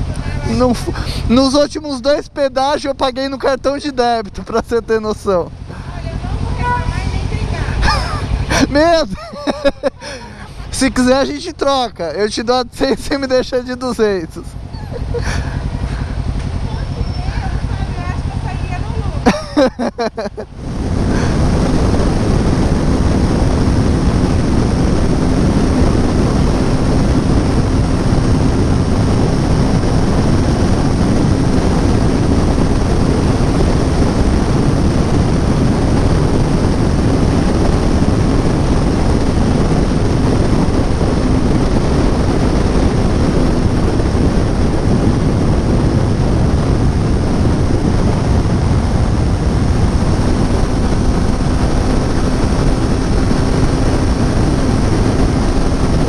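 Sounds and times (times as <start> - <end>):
motorcycle engine drone: 0.0 - 56.0
wind rush on microphone: 0.0 - 56.0.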